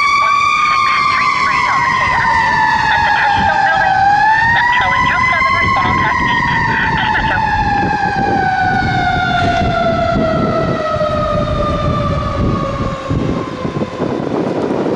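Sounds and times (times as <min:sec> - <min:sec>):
mechanical siren winding down: 0:00.0 - 0:12.8
low traffic rumble: 0:00.0 - 0:14.9.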